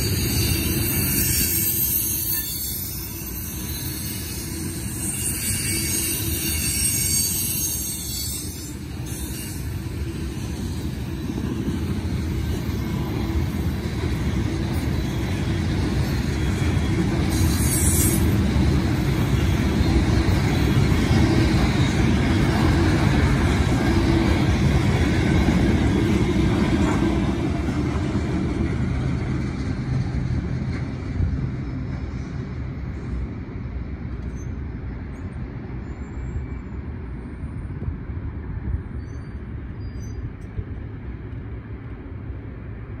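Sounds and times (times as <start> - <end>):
train wheels clattering on rail: 0.0 - 43.0.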